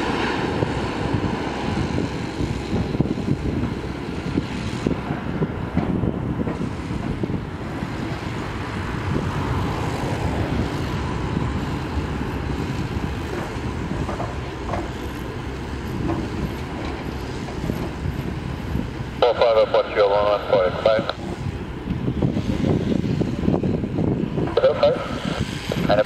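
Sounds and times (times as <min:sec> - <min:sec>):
aircraft engine and airflow rumble: 0:00.0 - 0:26.0.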